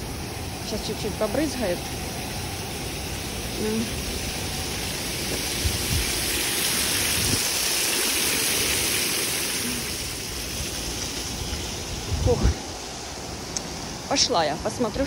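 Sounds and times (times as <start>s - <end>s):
water spraying: 0.0s - 15.0s.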